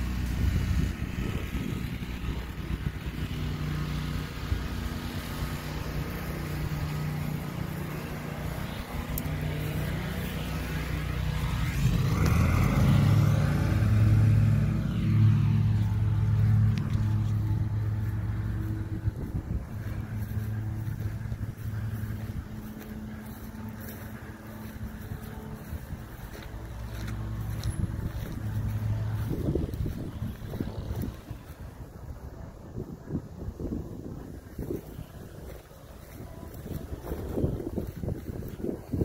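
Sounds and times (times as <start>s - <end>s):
vehicle engine humming: 0.0s - 39.0s
vehicle passing by: 0.0s - 39.0s.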